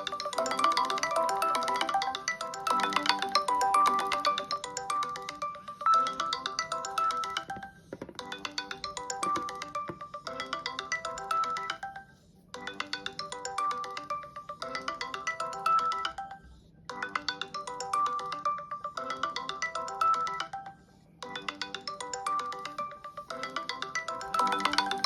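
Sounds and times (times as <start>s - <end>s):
phone ringtone melody: 0.0s - 25.0s.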